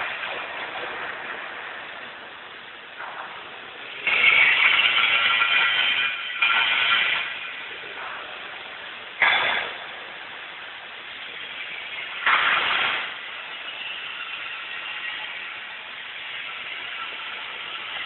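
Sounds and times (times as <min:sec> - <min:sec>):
overhead crane mechanical noise: 0:00.0 - 0:18.0.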